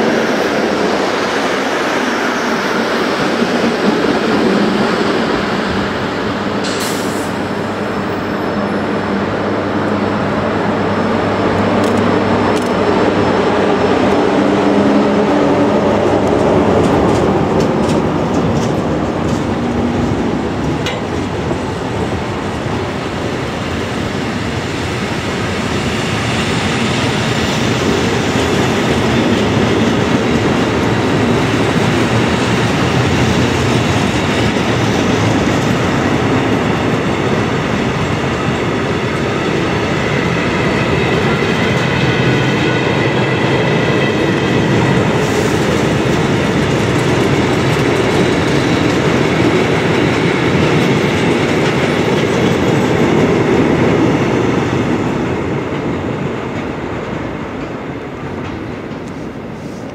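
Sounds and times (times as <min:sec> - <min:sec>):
low locomotive drone: 0:00.0 - 0:59.9
train wheels rumbling on rails: 0:00.0 - 0:59.9.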